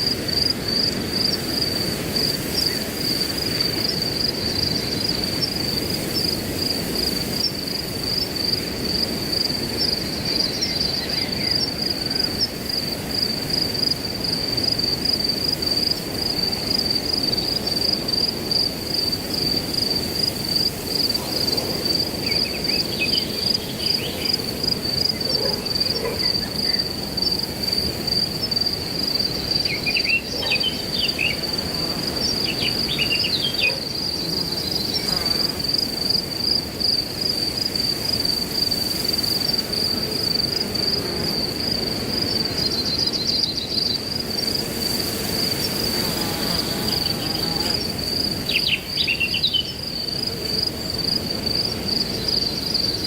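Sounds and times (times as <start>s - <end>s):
crickets chirping: 0.0s - 53.0s
wind through grass: 0.0s - 53.0s.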